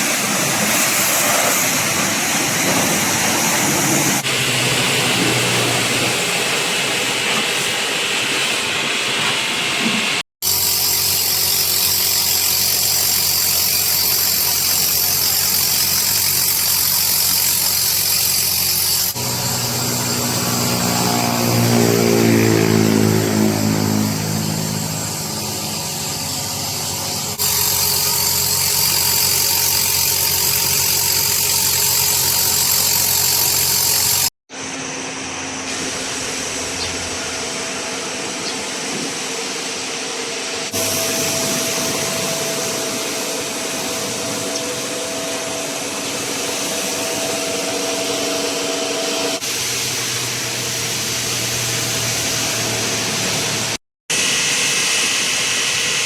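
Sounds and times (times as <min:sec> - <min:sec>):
pressure washer motor whining: 0:00.0 - 0:08.8, 0:10.4 - 0:56.0
hissing water jet: 0:00.0 - 0:34.3, 0:40.6 - 0:56.0.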